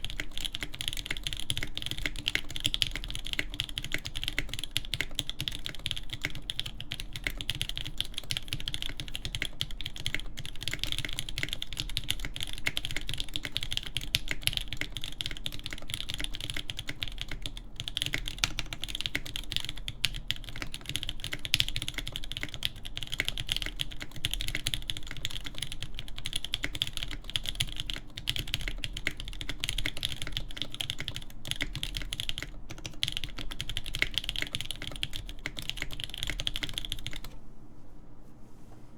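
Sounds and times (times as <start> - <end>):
mechanical keyboard typing: 0.0 - 37.4.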